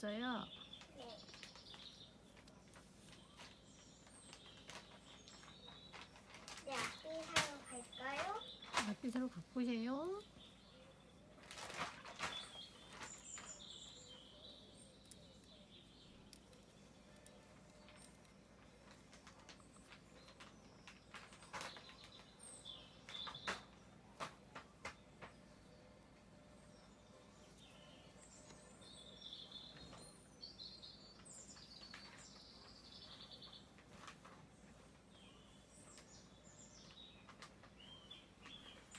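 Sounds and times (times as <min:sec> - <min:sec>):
birds chirping faintly: 0:00.0 - 0:38.9.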